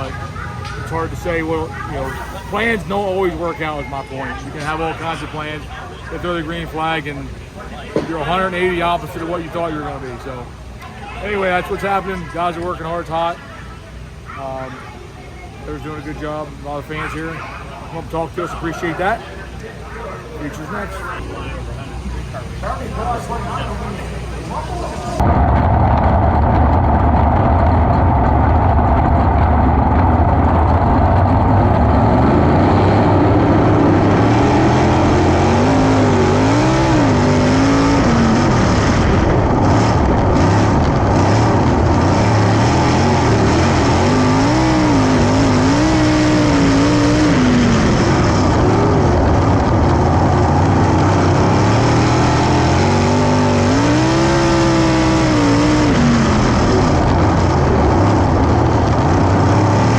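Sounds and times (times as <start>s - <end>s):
race car engines on dirt track: 0.0s - 59.9s.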